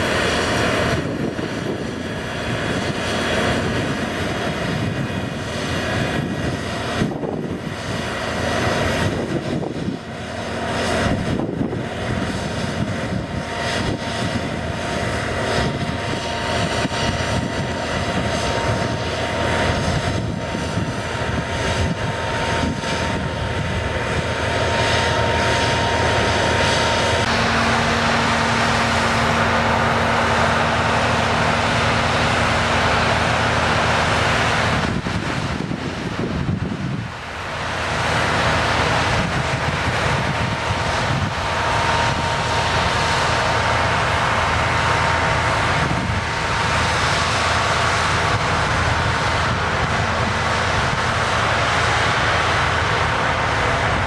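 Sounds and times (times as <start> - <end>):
combine harvester running: 0.0 - 54.0
machinery whine: 0.0 - 54.0.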